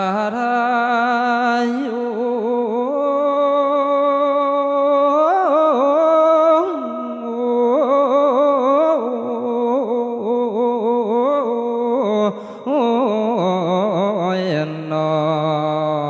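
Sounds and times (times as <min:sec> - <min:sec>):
person chanting melodically: 0:00.0 - 0:16.0.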